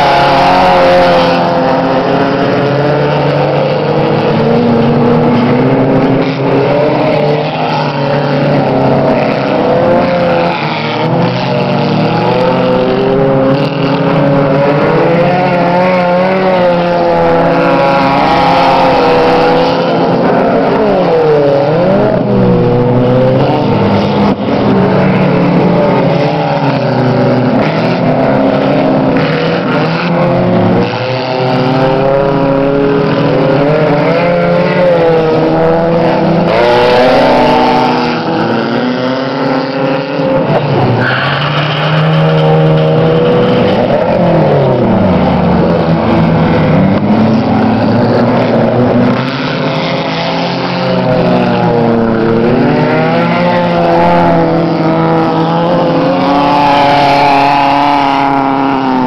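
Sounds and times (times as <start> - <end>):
race car engines running hard: 0.0 - 59.0.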